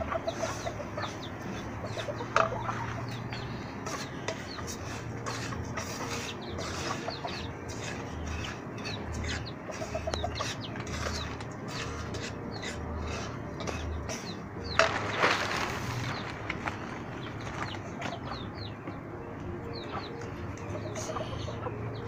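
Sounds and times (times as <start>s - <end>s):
chickens clucking: 0.0s - 22.0s
chicks peeping: 0.0s - 22.0s.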